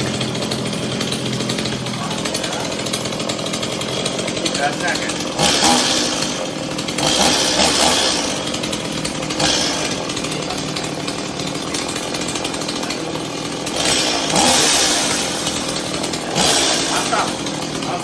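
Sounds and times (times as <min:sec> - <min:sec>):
battery chainsaw running: 0:00.0 - 0:18.0.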